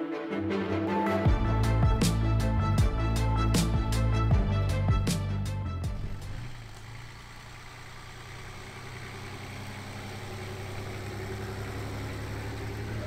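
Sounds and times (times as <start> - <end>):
diesel truck engine driving: 1.3 - 13.0.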